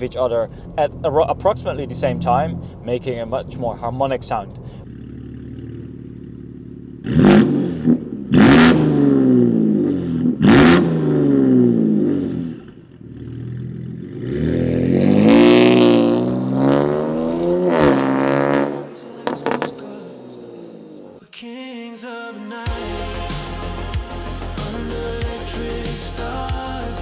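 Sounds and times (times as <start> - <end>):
car exhaust idling and revving: 0.0 - 21.2, 22.7 - 27.0.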